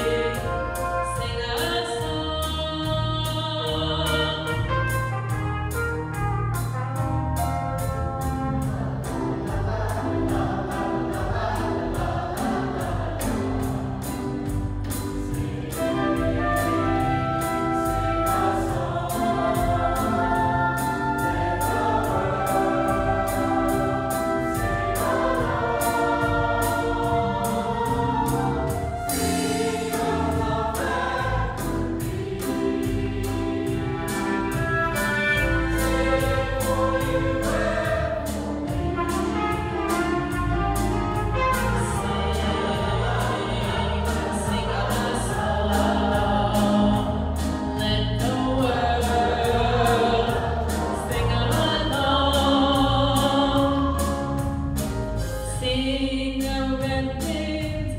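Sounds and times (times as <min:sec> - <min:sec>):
choir singing a hymn: 0:00.0 - 0:05.3, 0:08.2 - 0:54.6
instrumental accompaniment with beat: 0:00.0 - 0:55.5.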